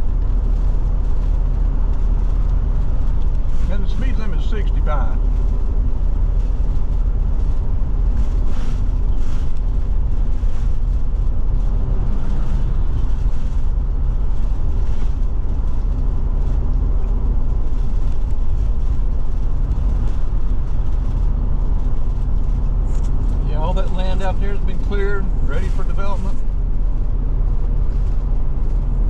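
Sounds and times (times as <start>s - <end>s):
road and engine noise in cab: 0.0s - 29.0s.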